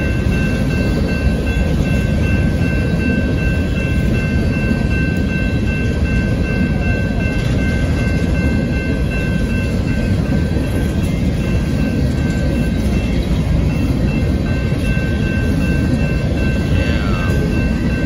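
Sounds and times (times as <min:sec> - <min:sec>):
crossing bell ringing: 0:00.0 - 0:18.0
train wheels rumbling on rail: 0:00.0 - 0:18.0.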